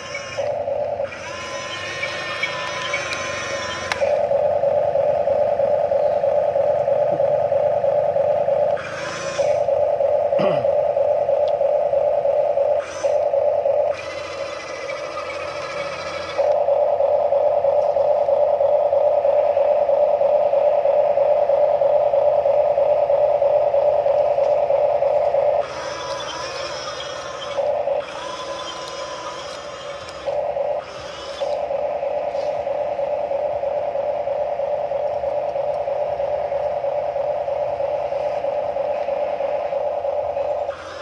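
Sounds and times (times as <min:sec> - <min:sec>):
toy electric motors whining: 0:00.0 - 0:18.5, 0:23.1 - 0:41.0
broad mechanical noise: 0:00.0 - 0:41.0.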